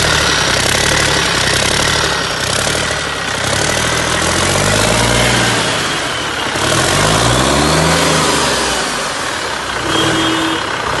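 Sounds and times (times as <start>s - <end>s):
diesel engine revving: 0.0s - 11.0s.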